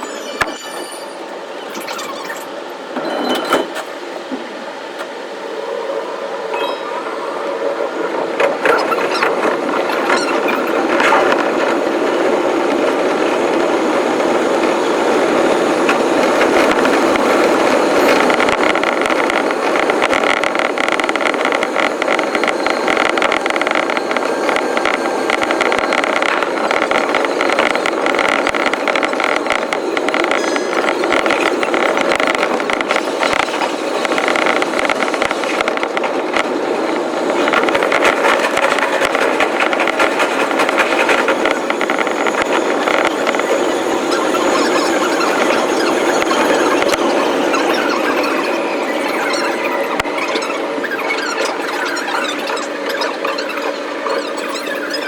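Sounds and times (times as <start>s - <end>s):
sped-up train running on rails: 0.0s - 55.0s.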